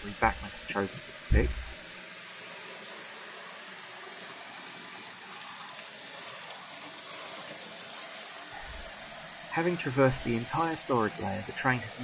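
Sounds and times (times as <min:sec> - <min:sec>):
model train wheels and motor hiss: 0:00.0 - 0:12.0.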